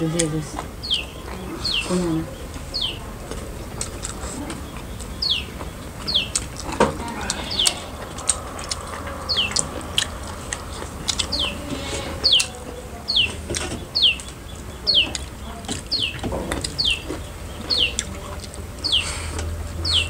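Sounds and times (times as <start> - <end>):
bird chirping: 0.0 - 20.0
people eating from metal plates: 0.0 - 20.0.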